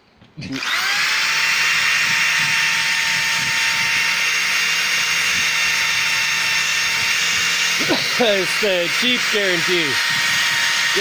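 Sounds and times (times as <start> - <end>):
power tool running: 0.5 - 11.0.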